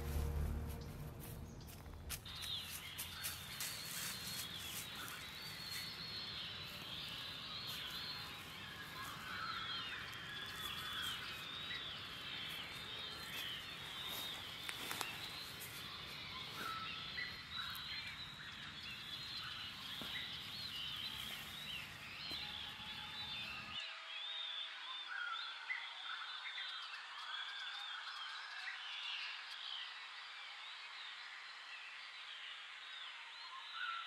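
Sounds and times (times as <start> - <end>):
birds chirping and twittering: 0.0 - 34.0.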